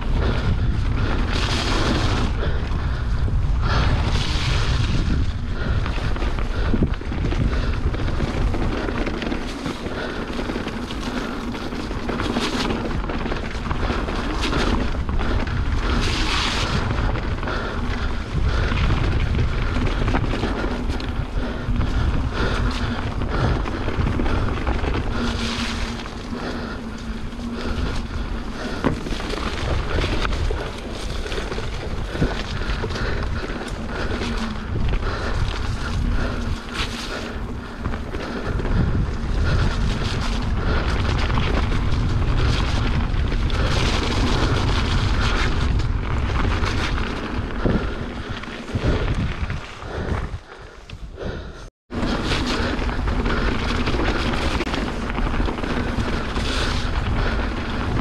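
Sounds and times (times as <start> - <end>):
bike rattling: 0.0 - 58.0
wind rushing over microphone: 0.0 - 58.0.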